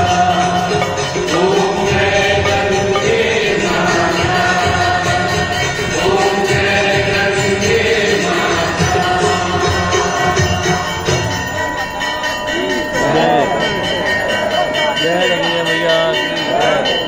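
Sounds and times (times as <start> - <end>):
group singing a hymn: 0.0 - 11.4, 12.6 - 15.5
jingling percussion: 0.0 - 17.0.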